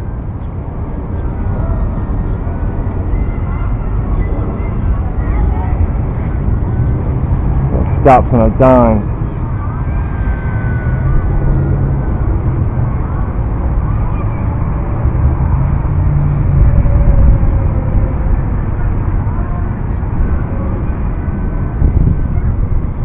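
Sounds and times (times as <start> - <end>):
deep outdoor rumble: 0.0 - 23.0.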